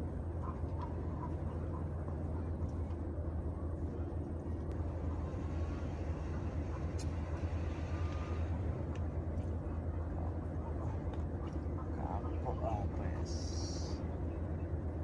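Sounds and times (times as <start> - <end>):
steady low drone: 0.0 - 15.0.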